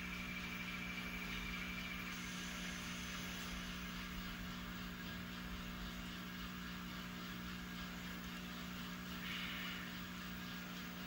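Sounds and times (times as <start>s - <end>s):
model train humming: 0.0s - 11.0s.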